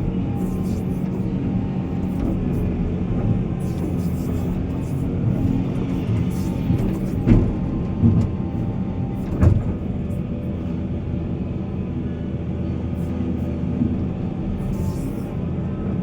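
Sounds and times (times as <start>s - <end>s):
heavy diesel machinery running: 0.0s - 16.0s.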